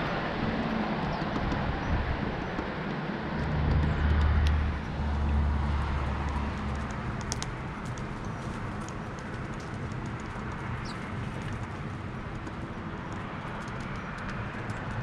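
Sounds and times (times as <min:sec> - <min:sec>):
car passing: 0:00.0 - 0:15.0
woodpecker tapping: 0:01.0 - 0:05.4, 0:06.0 - 0:15.0.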